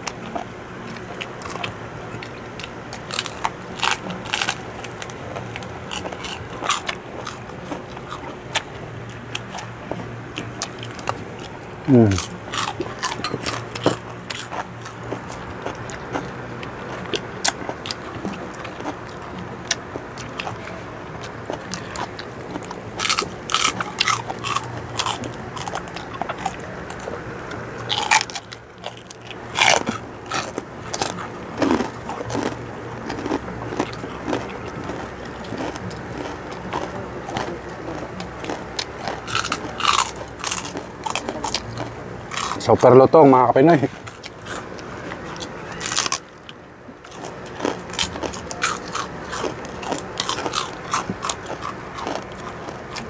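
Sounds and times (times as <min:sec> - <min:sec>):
quiet chewing: 0:00.0 - 0:42.7, 0:43.7 - 0:53.0
crunching crispy bites: 0:00.9 - 0:08.7, 0:10.5 - 0:27.2, 0:27.8 - 0:42.9, 0:43.7 - 0:53.0.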